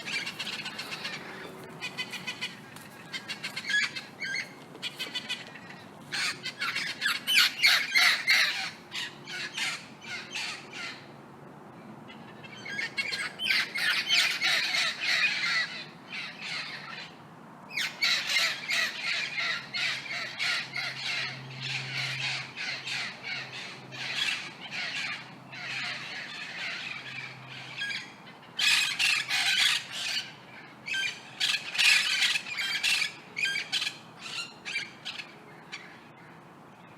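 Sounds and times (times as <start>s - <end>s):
parrots squawking: 0.0s - 11.0s, 12.4s - 17.1s, 17.7s - 35.9s.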